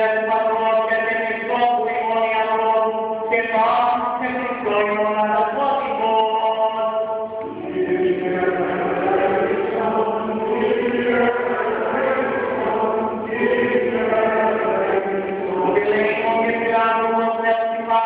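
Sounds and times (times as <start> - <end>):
voices chanting a hymn: 0.0 - 18.0.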